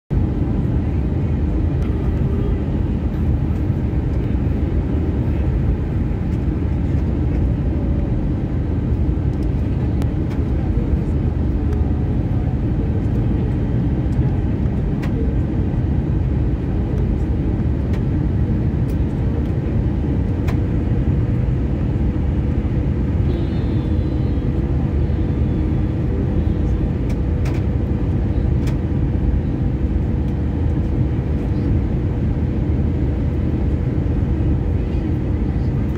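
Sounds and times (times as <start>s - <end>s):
airplane cabin airflow rush: 0.1s - 35.9s
jet engine low rumble: 0.1s - 35.9s.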